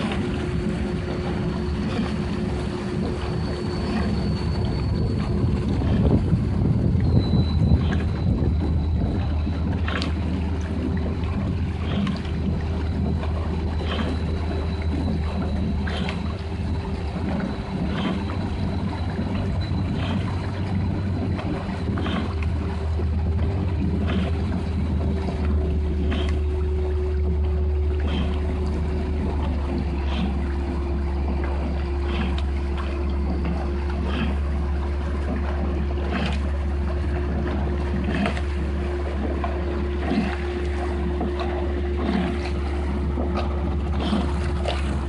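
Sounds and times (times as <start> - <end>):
outboard motor running: 0.0 - 45.0
water rushing: 0.0 - 45.0.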